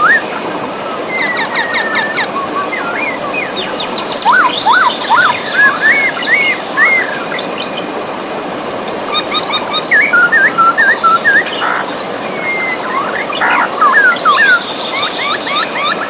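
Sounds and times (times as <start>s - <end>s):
birds singing whistled notes: 0.0s - 7.9s, 8.7s - 16.0s
flowing river water: 0.0s - 16.0s.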